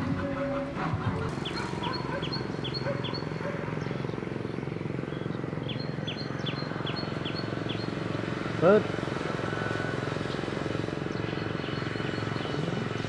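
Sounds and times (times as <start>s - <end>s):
low pulsing drone: 0.0s - 13.0s.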